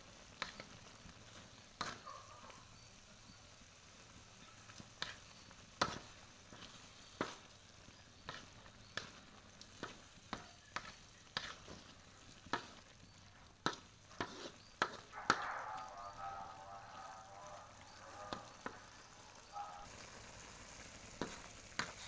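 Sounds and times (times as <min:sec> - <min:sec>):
faint sizzle of frying: 0:00.0 - 0:22.0
spatula scraping wok: 0:00.2 - 0:03.4, 0:04.2 - 0:22.0.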